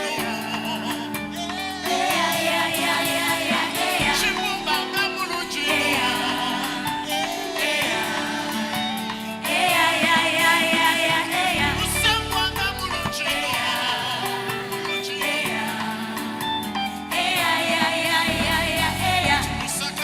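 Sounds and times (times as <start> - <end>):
band accompaniment: 0.0 - 20.0
several voices singing together: 0.0 - 20.0.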